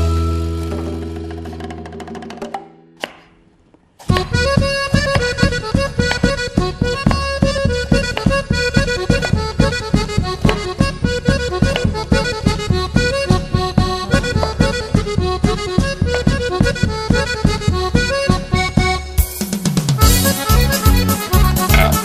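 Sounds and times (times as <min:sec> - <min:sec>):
background music with quick beat: 0:04.0 - 0:22.0.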